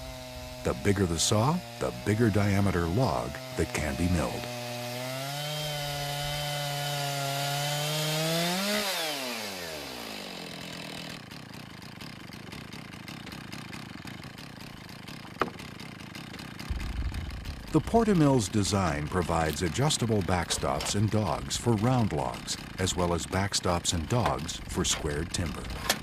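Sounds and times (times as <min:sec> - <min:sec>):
chainsaw cutting a log: 0:00.0 - 0:26.0.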